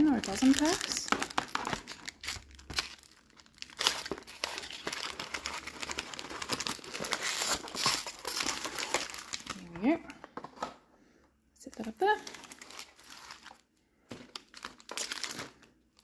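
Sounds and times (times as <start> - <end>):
foil wrappers crinkling: 0.0 - 9.9, 12.2 - 16.0.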